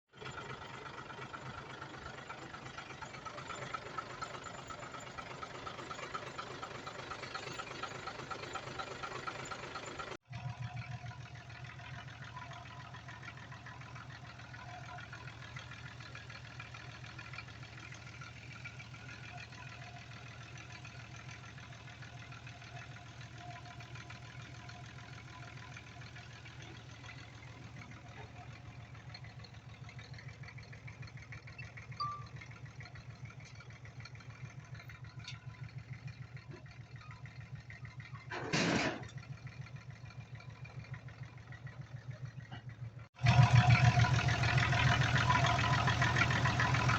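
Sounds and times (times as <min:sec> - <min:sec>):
diesel engines of heavy machinery: 0:00.1 - 0:46.9.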